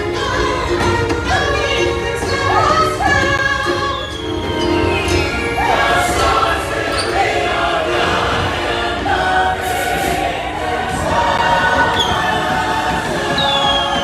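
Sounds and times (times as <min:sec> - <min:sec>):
choir singing: 0:00.0 - 0:14.0
instrumental backing music: 0:00.0 - 0:14.0.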